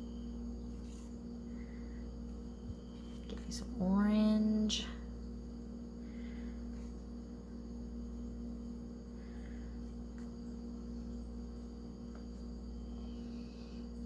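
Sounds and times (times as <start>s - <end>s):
faint high-pitched whine: 0.0s - 14.0s
low electrical hum: 0.0s - 14.0s.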